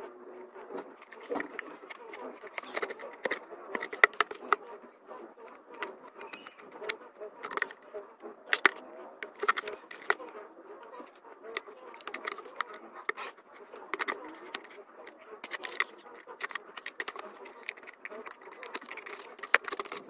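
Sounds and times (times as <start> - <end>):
tool scraping plastic: 0.6 - 4.7, 5.4 - 10.4, 11.0 - 20.0
plastic cracking and clicking: 0.7 - 4.7, 5.4 - 10.4, 11.0 - 20.0.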